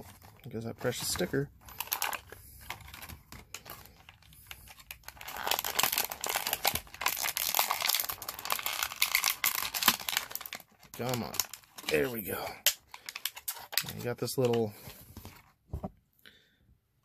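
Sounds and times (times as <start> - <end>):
plastic packaging crinkling: 0.1 - 14.7.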